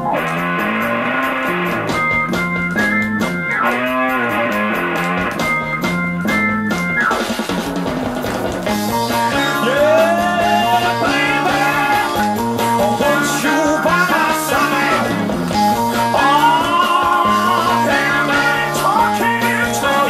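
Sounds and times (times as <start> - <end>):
prog rock from vinyl record: 0.0 - 20.0.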